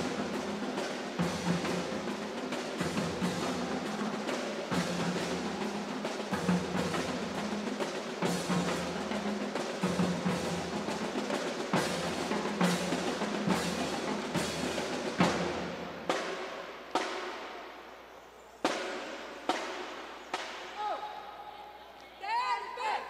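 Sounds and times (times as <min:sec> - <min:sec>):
drums and snare rolls: 0:00.0 - 0:18.0, 0:18.6 - 0:21.3
marching band brass chords: 0:00.0 - 0:21.9.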